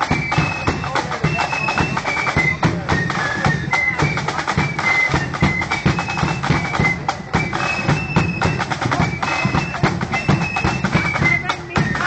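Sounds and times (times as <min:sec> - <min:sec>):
flutes playing melody: 0:00.0 - 0:12.0.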